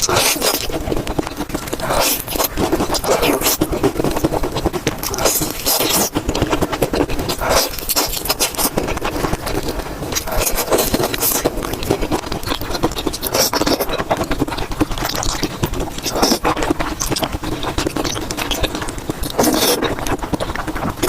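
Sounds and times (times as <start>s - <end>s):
chewing and mouth noises: 0.0s - 21.0s.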